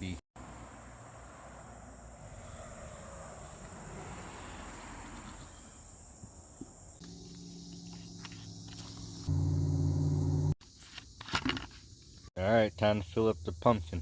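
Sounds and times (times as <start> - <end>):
crickets trilling: 0.4 - 14.0.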